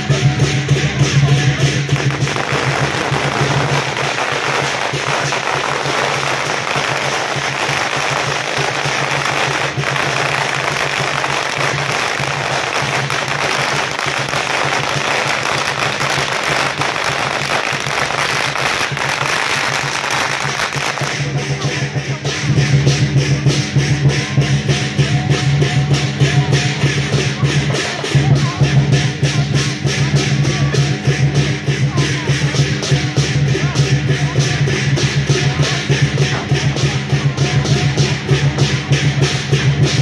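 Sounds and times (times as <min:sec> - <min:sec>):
firecrackers crackling: 0:00.0 - 0:40.0.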